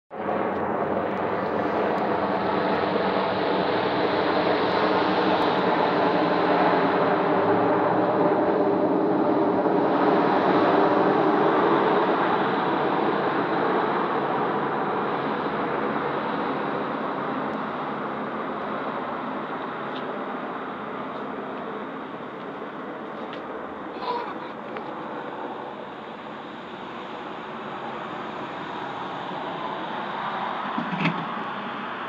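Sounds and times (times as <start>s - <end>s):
helicopters droning overhead: 0.1s - 32.0s.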